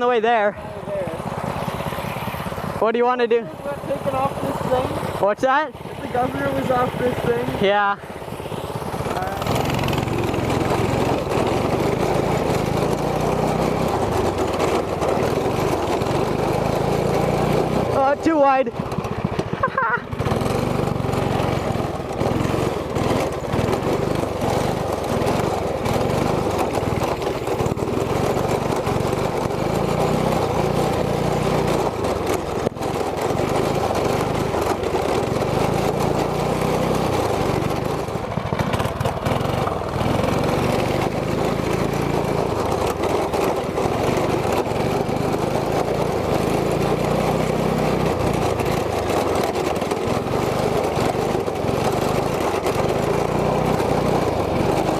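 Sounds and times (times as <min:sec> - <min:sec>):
go-kart engine revving: 0:00.0 - 0:54.9.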